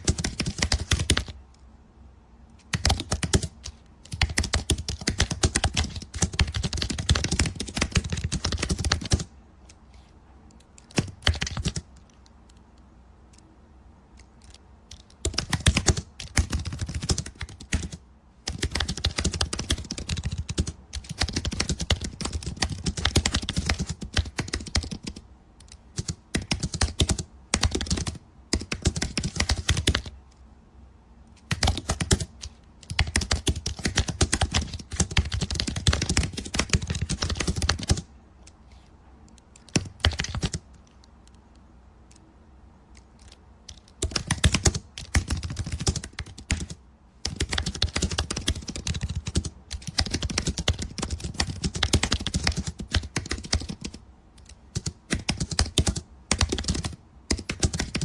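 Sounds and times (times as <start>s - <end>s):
fast typing on keyboard: 0.0s - 1.4s, 2.6s - 9.3s, 10.8s - 12.1s, 14.5s - 30.2s, 31.4s - 38.1s, 39.6s - 40.7s, 43.2s - 58.0s.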